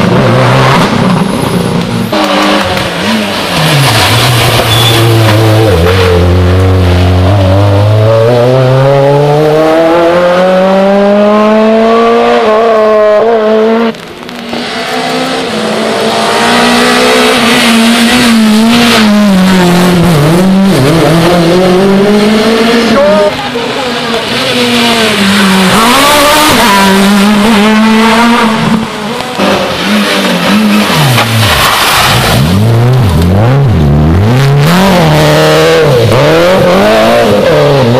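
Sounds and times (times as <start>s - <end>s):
rally car engines revving: 0.0s - 37.9s.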